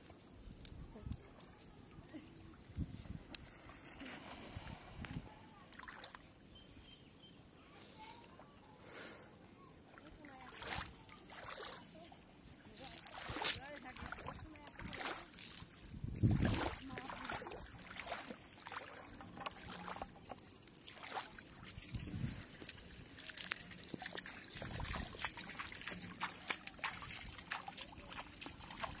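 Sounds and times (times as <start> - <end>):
water trickling and sloshing: 0.0 - 6.8, 9.8 - 29.0.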